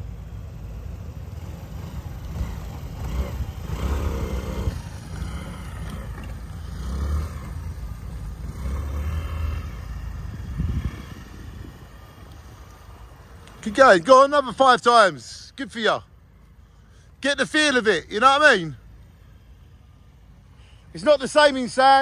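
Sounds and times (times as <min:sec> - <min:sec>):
distant motor scooter rumble: 0:00.0 - 0:22.0.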